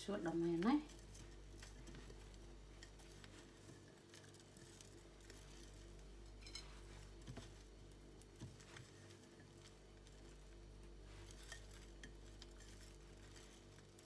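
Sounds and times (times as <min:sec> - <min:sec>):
crumb coating rustling: 0:00.0 - 0:14.0
low steady hum: 0:00.0 - 0:14.0.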